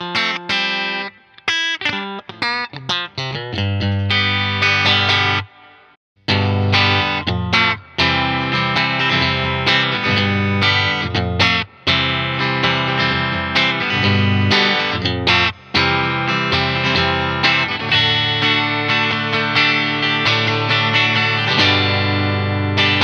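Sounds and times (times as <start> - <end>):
electric guitar strumming chords: 0.0 - 23.0.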